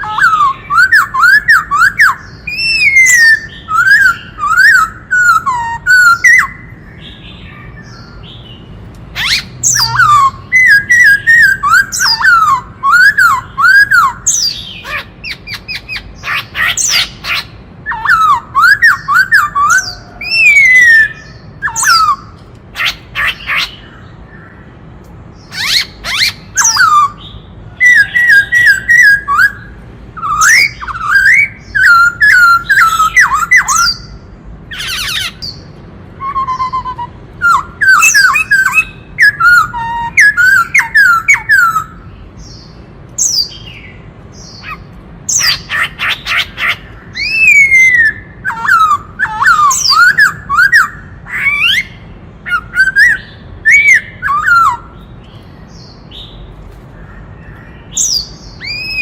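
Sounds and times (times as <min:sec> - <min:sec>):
bird singing whistled phrases: 0:00.0 - 0:23.8, 0:25.5 - 0:56.4, 0:57.4 - 0:59.0
harsh bird notes: 0:00.0 - 0:59.0.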